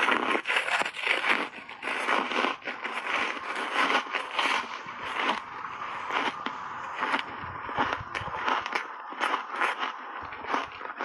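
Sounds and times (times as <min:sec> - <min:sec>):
crunchy ice being chewed: 0:00.0 - 0:11.0.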